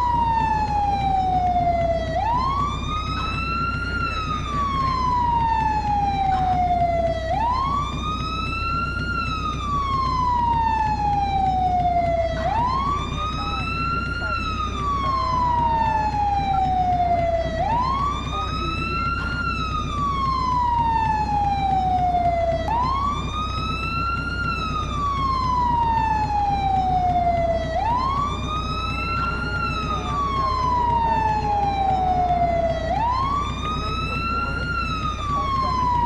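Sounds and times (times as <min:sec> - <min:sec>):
fire truck siren wailing: 0:00.0 - 0:36.0.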